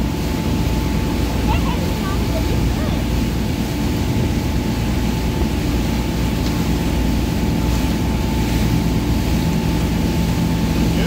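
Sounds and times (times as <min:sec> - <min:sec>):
motorboat engine humming: 0:00.0 - 0:11.0
rush of boat wake: 0:00.0 - 0:11.0.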